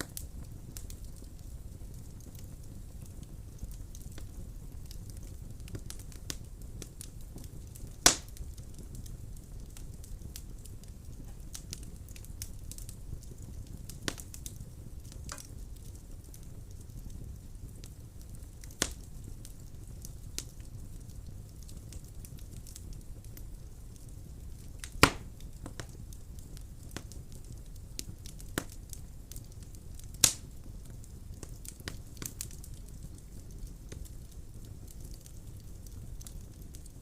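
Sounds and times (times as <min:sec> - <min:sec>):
fire crackles and pops: 0:00.0 - 0:37.0
fire flames rumbling: 0:00.0 - 0:37.0.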